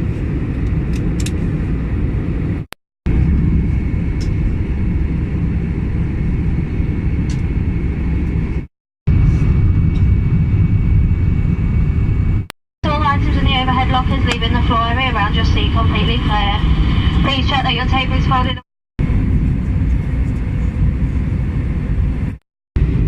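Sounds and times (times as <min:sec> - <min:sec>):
airliner engines and airflow rumble: 0:00.0 - 0:23.0.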